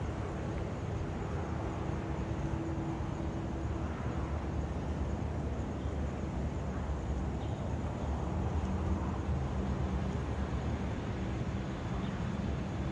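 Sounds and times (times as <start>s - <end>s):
jet engines low rumble: 0.0s - 12.9s.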